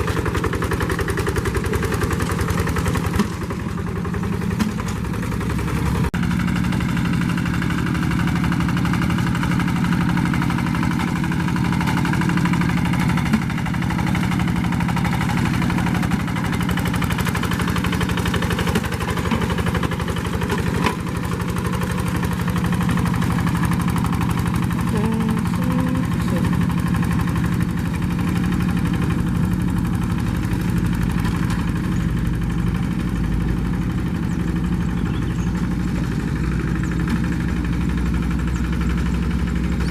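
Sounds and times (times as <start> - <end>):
hand tractor engine running: 0.0 - 39.9.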